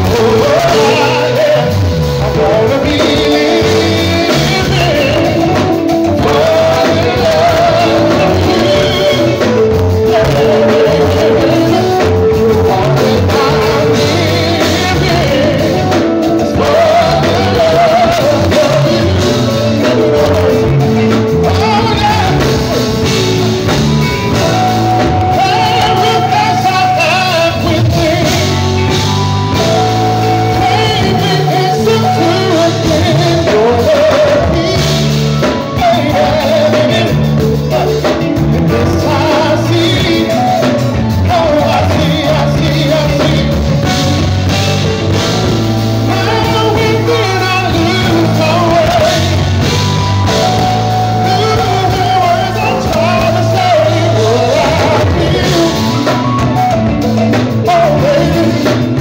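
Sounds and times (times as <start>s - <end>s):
man singing into microphone: 0.0s - 45.0s, 45.9s - 59.0s
drum kit: 0.0s - 59.0s
electric bass: 0.0s - 59.0s
keyboards: 0.0s - 59.0s.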